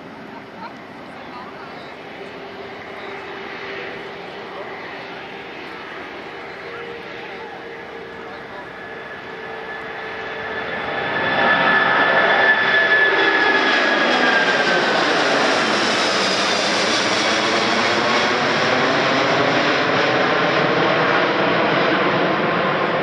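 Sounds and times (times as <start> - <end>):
jet airliner taking off overhead: 0.0 - 23.0.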